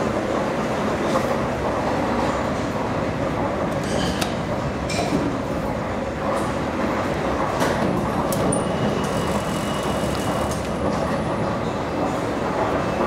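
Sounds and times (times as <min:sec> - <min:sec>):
rail vehicle rumble: 0:00.0 - 0:13.0.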